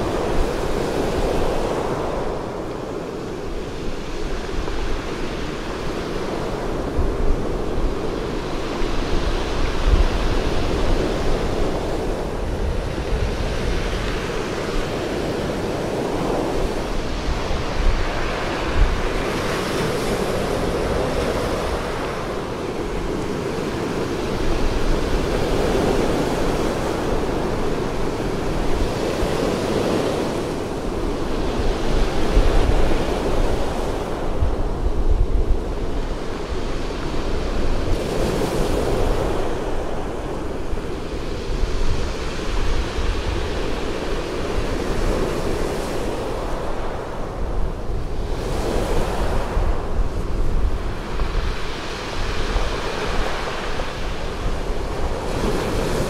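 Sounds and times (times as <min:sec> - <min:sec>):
wind rumbling on microphone: 0:00.0 - 0:56.0.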